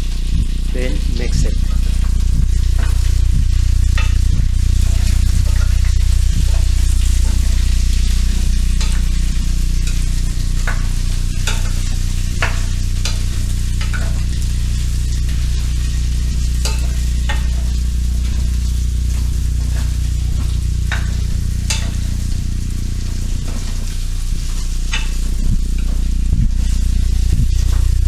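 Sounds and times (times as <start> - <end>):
food sizzling in a pan: 0.0 - 28.0
steady low hum: 0.0 - 28.0
utensil scraping pan: 1.4 - 27.9.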